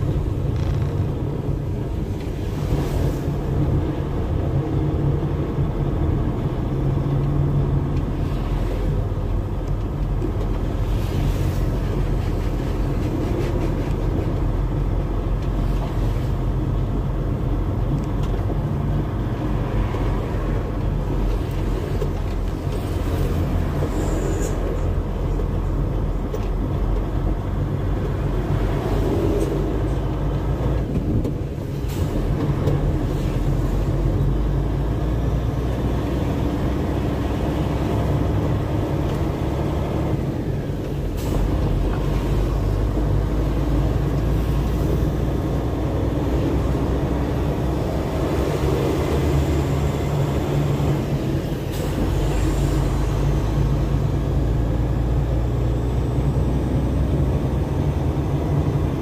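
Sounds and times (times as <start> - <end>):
road noise: 0.0 - 59.0
truck diesel engine droning: 0.0 - 59.0.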